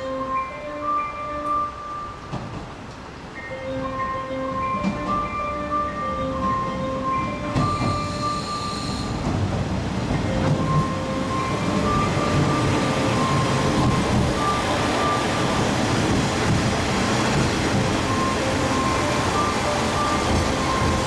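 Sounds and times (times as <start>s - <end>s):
diesel railcars passing: 0.0s - 21.0s.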